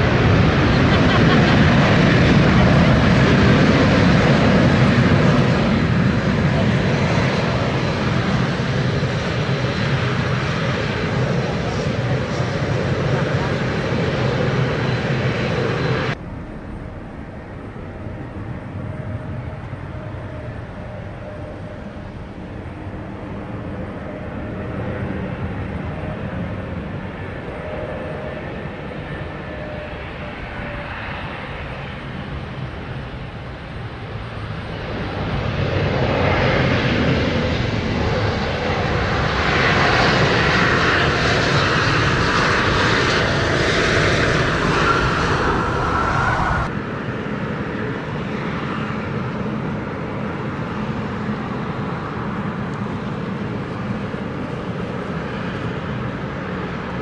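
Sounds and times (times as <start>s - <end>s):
jet engines with high whine: 0.0s - 57.0s
steady aircraft engine noise: 0.0s - 57.0s.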